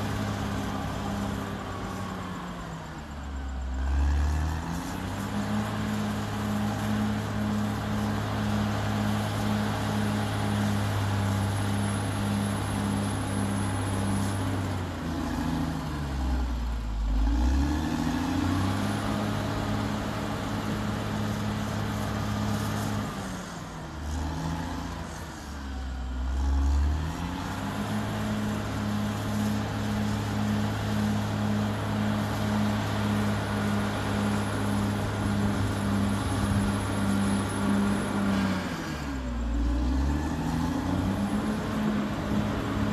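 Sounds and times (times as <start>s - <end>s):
bulldozer diesel engine revving: 0.0s - 42.9s.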